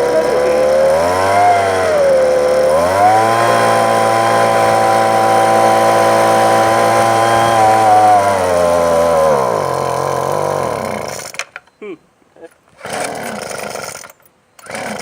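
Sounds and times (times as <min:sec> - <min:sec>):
string trimmer engine revving: 0:00.0 - 0:11.4, 0:12.8 - 0:15.0.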